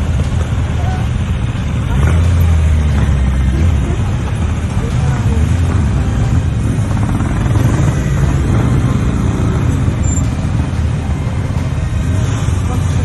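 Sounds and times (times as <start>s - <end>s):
motorcycles riding past: 0.0s - 13.0s.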